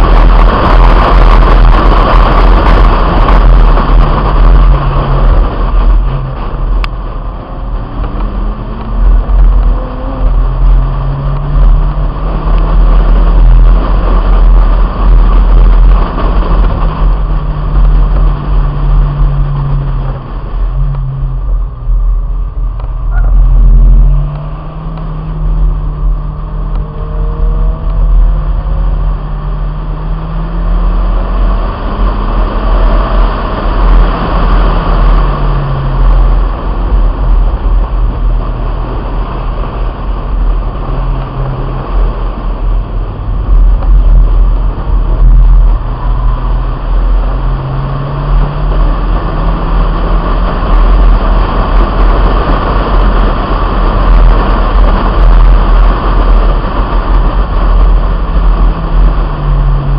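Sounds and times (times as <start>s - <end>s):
car engine revving: 0.0s - 59.9s
wind rumble on microphone: 0.0s - 59.9s.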